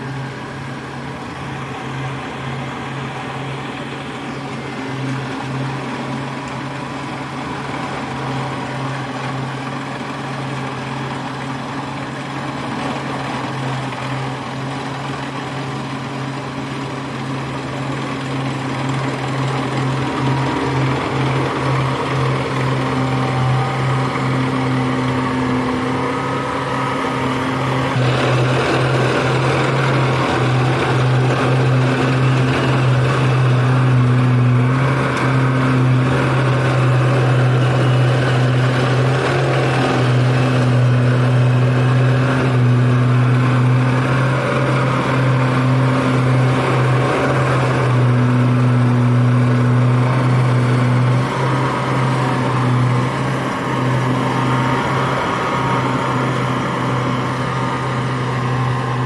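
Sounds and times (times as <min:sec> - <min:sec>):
harvesting machine engine running: 0:00.0 - 0:59.0.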